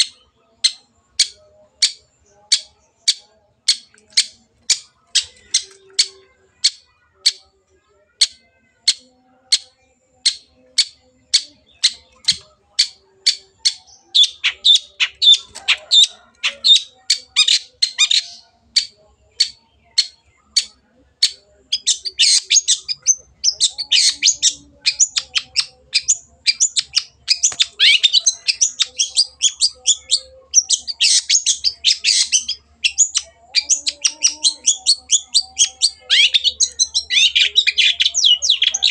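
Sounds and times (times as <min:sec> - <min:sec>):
harsh chattering birdsong: 0:00.0 - 0:38.9.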